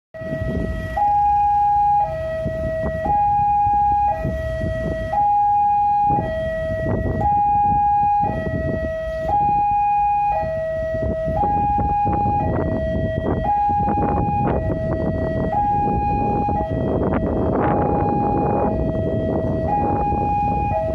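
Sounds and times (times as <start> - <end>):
road traffic rumble: 0.2 - 20.9
two-tone level crossing alarm: 0.2 - 20.9.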